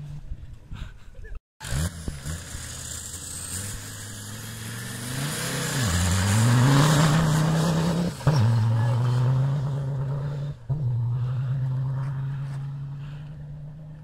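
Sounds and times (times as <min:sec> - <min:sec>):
diesel engine revving under load: 0:01.6 - 0:14.0.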